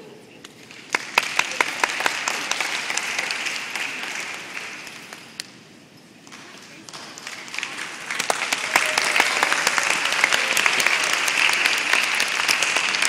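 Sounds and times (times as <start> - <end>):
crowd applauding: 0.6 - 5.6, 6.2 - 13.0.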